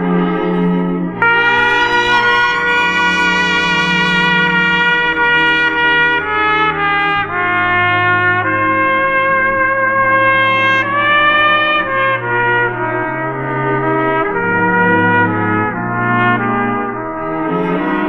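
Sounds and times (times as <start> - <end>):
brass music from vinyl record: 1.2 - 18.0.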